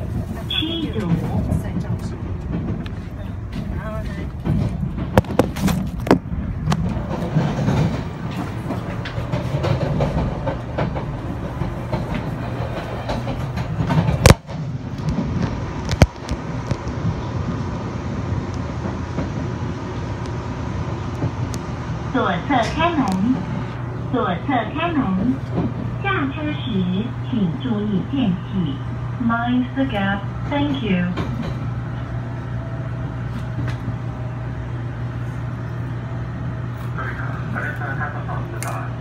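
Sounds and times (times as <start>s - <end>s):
train running noise: 0.0s - 39.0s.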